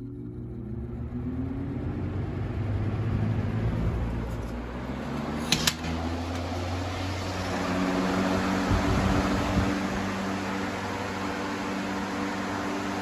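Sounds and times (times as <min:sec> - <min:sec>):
box fan motor hum: 0:00.0 - 0:13.0.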